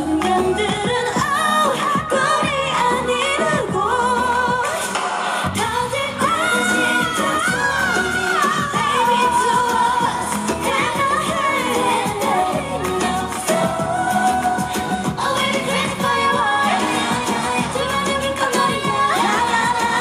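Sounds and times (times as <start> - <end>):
pop dance song with female vocals: 0.0 - 20.0.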